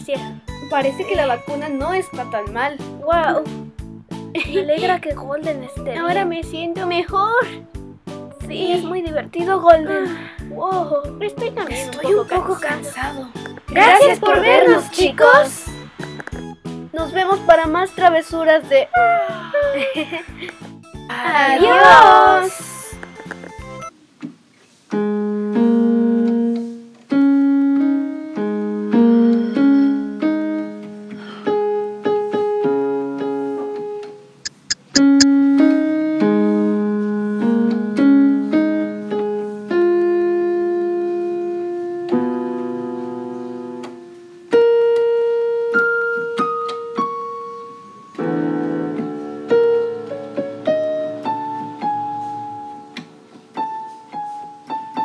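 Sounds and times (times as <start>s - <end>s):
piano music: 0.0s - 23.9s, 24.9s - 55.0s.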